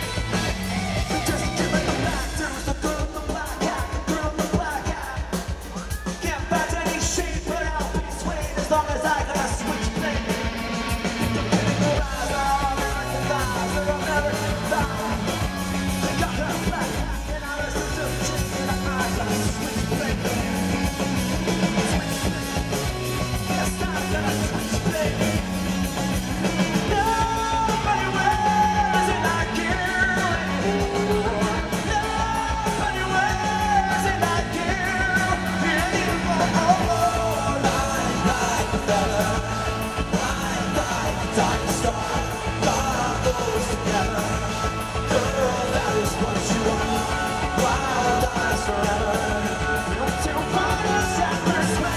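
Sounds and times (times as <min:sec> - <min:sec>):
man singing: 0:00.0 - 0:51.9
rock band playing live: 0:00.0 - 0:51.9.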